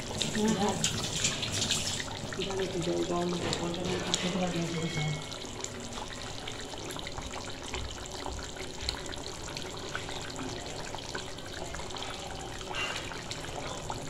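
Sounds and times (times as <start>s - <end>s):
curry bubbling at a simmer: 0.0s - 14.0s.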